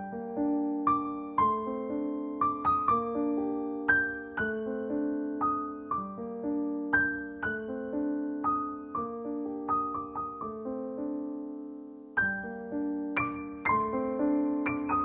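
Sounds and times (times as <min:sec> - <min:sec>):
slow piano notes: 0:00.0 - 0:15.0.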